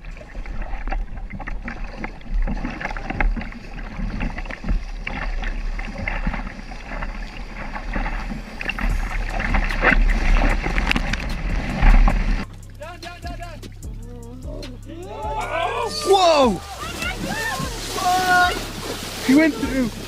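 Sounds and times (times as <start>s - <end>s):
kayak paddle splashing: 0.0s - 13.8s, 15.1s - 20.0s.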